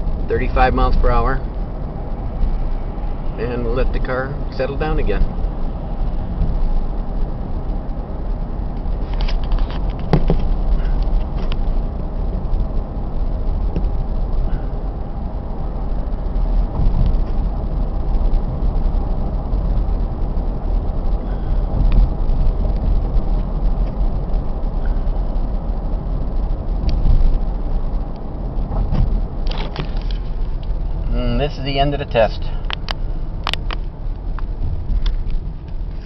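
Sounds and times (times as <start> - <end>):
car cabin road and engine rumble: 0.0 - 36.0.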